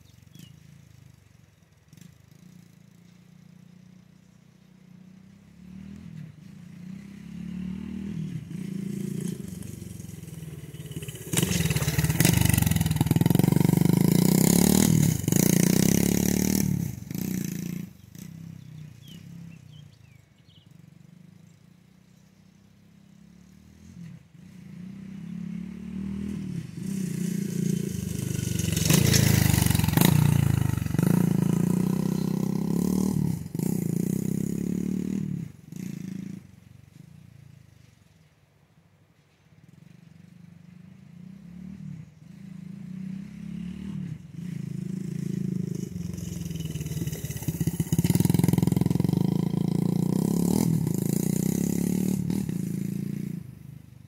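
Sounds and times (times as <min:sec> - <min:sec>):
dirt bike engine revving past: 0:01.9 - 0:20.0, 0:22.8 - 0:38.0, 0:39.6 - 0:54.0.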